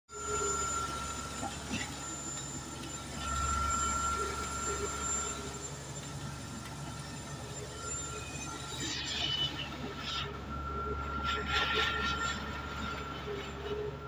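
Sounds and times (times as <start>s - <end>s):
high-pitched whine: 0.1s - 14.0s.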